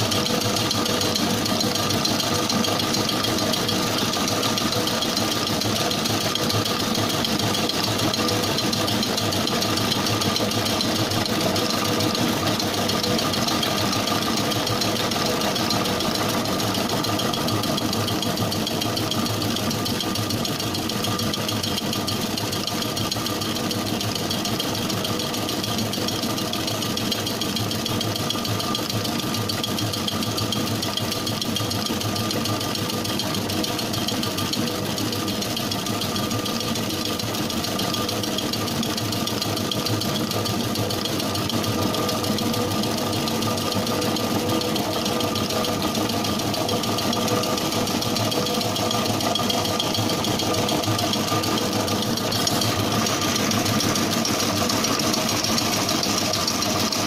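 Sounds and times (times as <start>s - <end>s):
mixer motor hum and whine: 0.0s - 57.0s.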